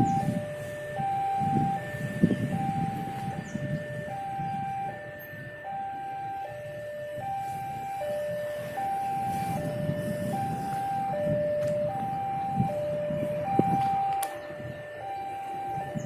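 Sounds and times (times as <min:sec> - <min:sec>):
road traffic rumble: 0:00.0 - 0:16.0
two-tone crossing alarm: 0:00.0 - 0:16.0.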